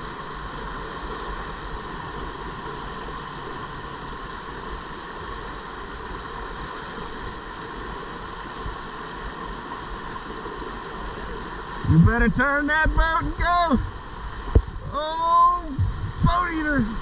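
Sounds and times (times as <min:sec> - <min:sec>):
river whitewater rushing over rock: 0:00.0 - 0:17.0.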